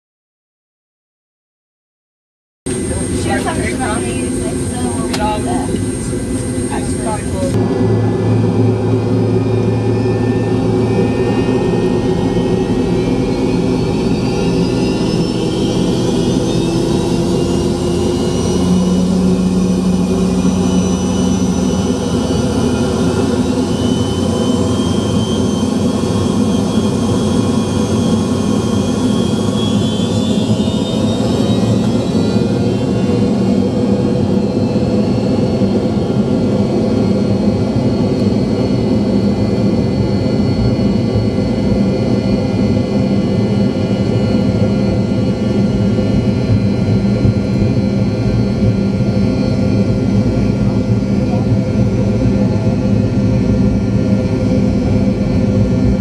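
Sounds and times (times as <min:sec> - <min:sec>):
jet engines from inside cabin: 0:02.7 - 0:56.0
rising engine whine: 0:02.7 - 0:56.0.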